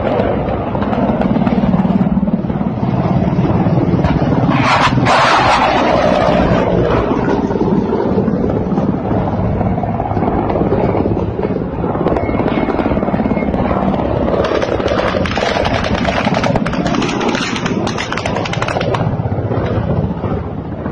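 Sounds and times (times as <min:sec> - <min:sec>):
helicopter rotor chop: 0:00.0 - 0:20.9.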